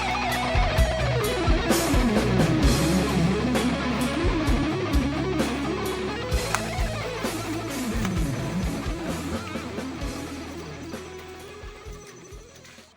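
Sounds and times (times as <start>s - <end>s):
electric guitar bending notes: 0.0s - 11.8s
drums: 0.0s - 12.9s.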